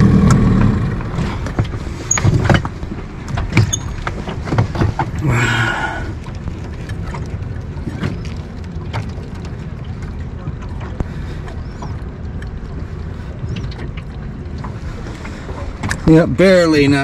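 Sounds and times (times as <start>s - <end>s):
knocks and clicks of gear: 0.0s - 5.2s, 6.2s - 12.6s, 13.4s - 16.1s.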